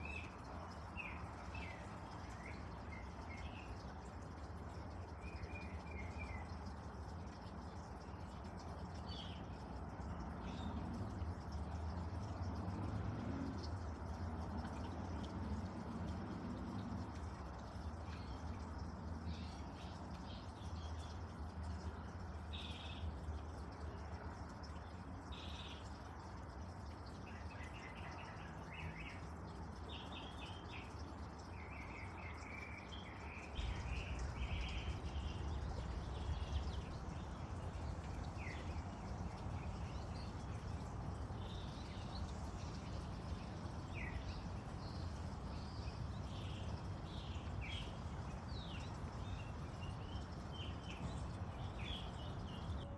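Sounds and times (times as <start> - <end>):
small birds chirping: 0.0 - 12.4, 17.0 - 52.9.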